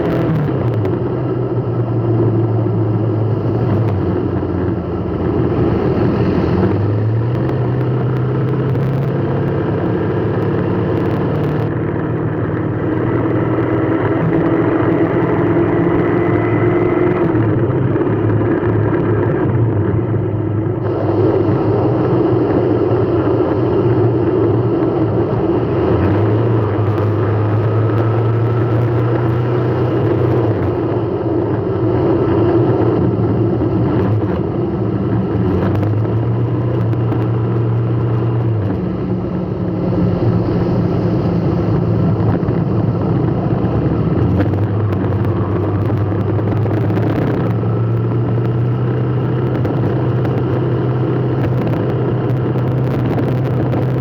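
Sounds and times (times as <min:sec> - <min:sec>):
low drone: 0:00.0 - 0:54.0
road noise: 0:00.0 - 0:54.0
vehicle engine hum: 0:00.0 - 0:54.0.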